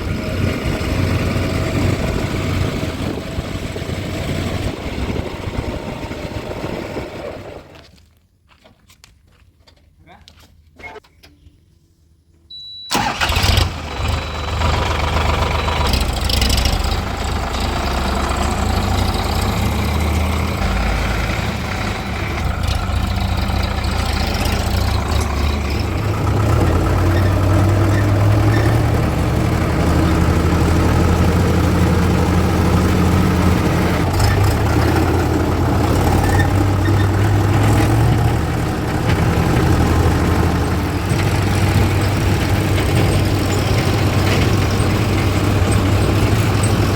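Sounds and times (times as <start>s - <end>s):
diesel machinery engines working: 0.0s - 7.8s, 12.9s - 46.9s.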